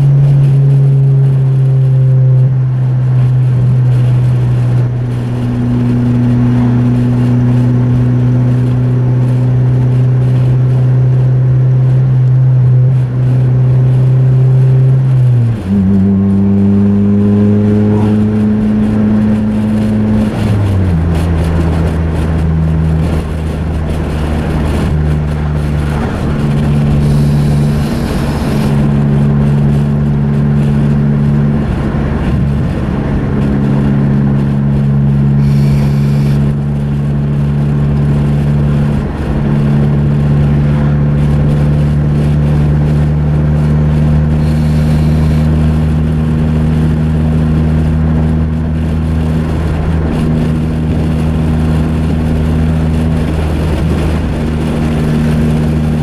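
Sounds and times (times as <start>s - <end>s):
car exhaust droning: 0.0s - 56.0s
tyre and road noise: 0.0s - 56.0s.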